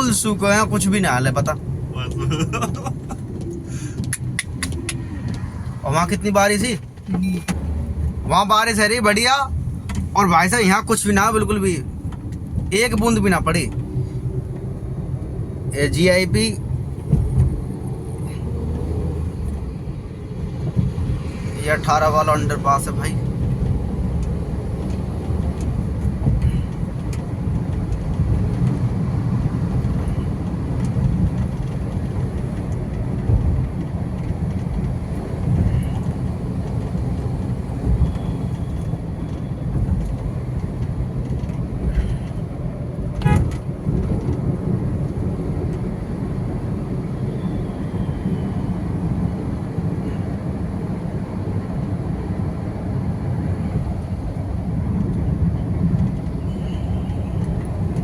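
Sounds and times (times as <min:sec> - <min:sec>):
vehicle and road rumble: 0:00.0 - 0:58.0.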